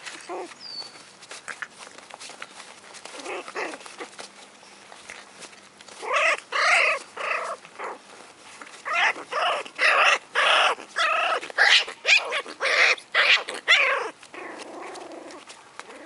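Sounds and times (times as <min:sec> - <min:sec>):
puppies yelping and whining: 0:00.0 - 0:16.0.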